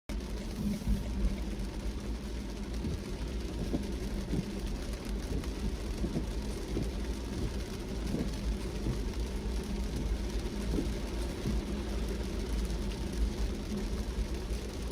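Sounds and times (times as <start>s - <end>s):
engine and tyres rumbling on road: 0.1s - 14.9s
rain: 0.1s - 14.9s.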